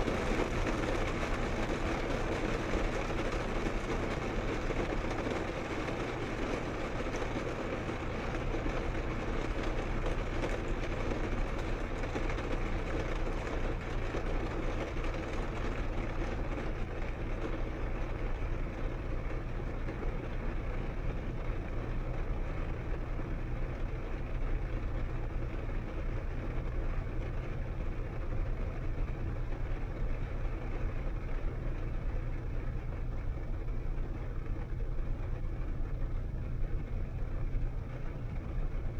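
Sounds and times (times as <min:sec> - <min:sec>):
car engine and exhaust drone: 0:00.0 - 0:38.9.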